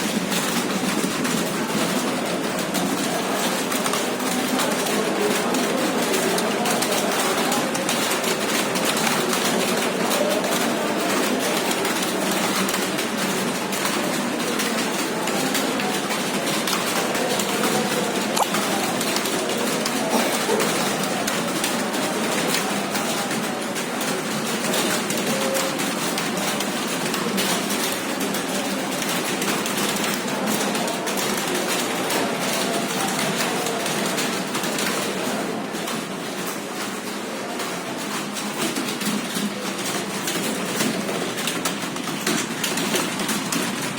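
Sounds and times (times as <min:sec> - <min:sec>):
many keyboards typing: 0:00.0 - 0:43.9.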